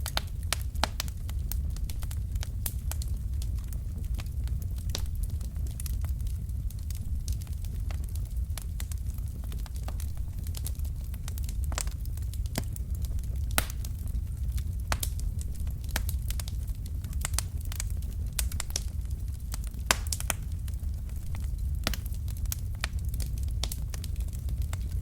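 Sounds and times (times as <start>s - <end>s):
logs crackling and popping: 0.0s - 25.0s
low rumble of flames: 0.0s - 25.0s.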